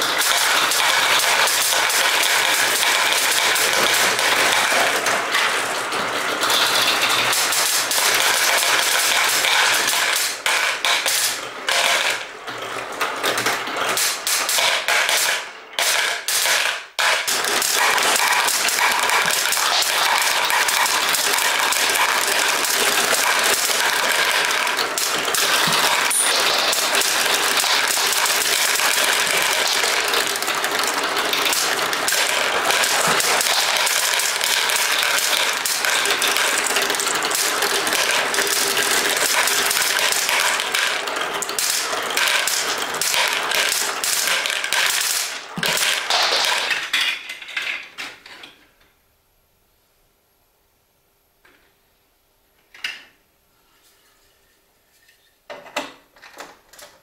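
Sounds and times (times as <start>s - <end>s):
marbles clattering down plastic run: 0.0s - 48.6s.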